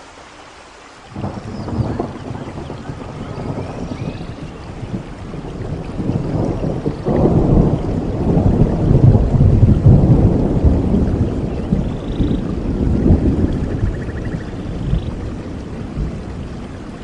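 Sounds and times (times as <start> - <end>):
steady rain: 0.0 - 17.0
thunder rolling: 1.1 - 17.0.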